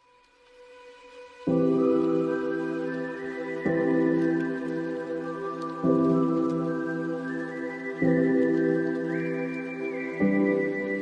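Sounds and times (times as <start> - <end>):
ambient music of held chords: 0.0 - 11.0.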